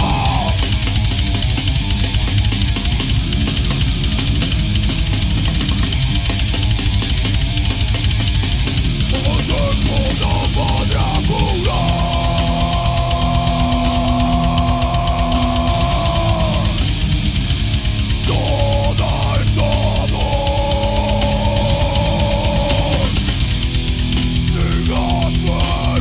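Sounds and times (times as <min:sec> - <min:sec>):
heavy metal band playing: 0:00.0 - 0:26.0.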